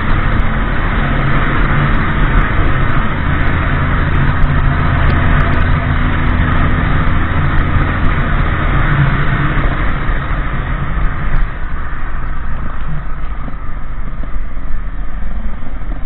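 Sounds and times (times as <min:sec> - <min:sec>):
motorcycle engine hum: 0:00.0 - 0:16.0
wind and road noise: 0:00.0 - 0:16.0.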